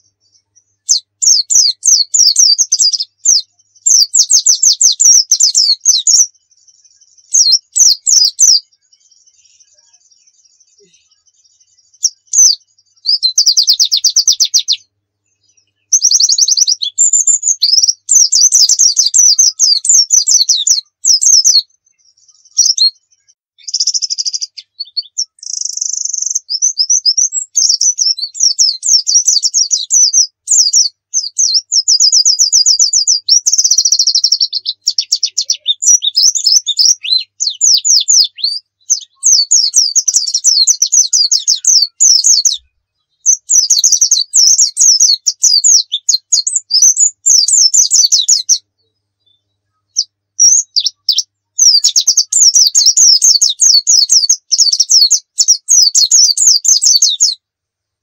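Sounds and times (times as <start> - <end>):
bird singing high trills: 0.0 - 57.4.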